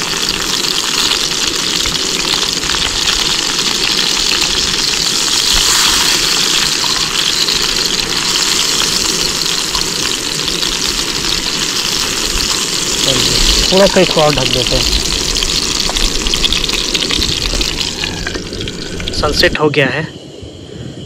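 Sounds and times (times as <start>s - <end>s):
chicken sizzling over fire: 0.0s - 20.0s.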